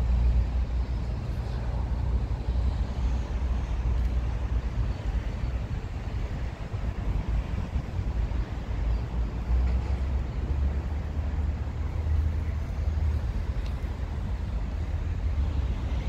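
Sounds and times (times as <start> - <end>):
steady low outdoor rumble: 0.0 - 16.0.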